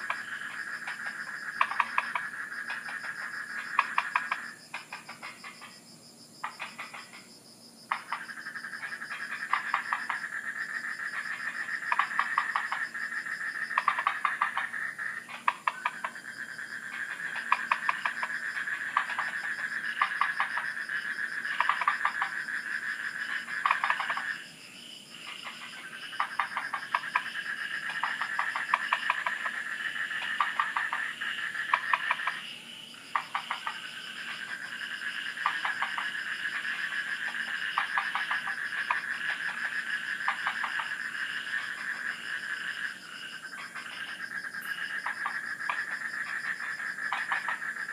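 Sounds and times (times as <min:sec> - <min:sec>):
frogs calling in clicking pulses: 0:00.0 - 0:47.9.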